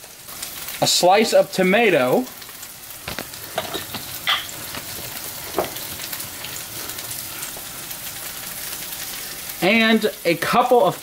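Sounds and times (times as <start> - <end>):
food sizzling in hot oil: 0.0 - 11.0
oil popping and crackling: 0.0 - 11.0.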